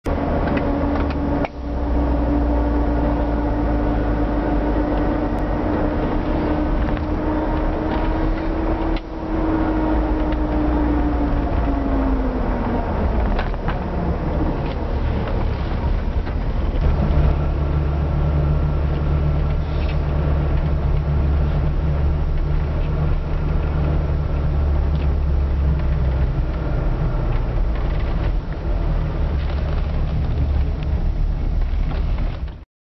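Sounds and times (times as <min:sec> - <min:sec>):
car whine: 0:00.0 - 0:32.6
road rumble: 0:00.0 - 0:32.6.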